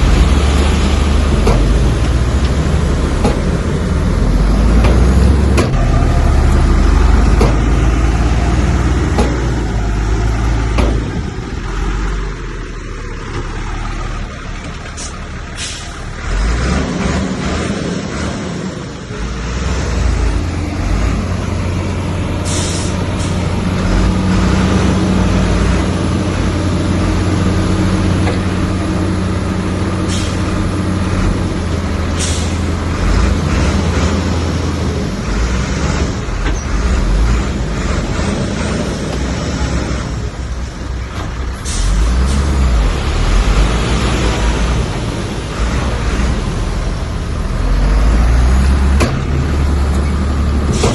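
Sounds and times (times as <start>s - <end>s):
heavy machinery diesel engines droning: 0.0s - 50.9s.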